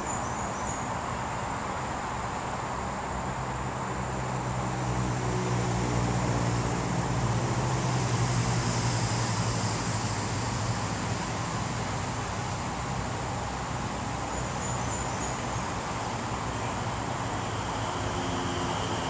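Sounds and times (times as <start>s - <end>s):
high insect buzz: 0.0s - 19.0s
vehicle engine hum: 0.0s - 19.0s.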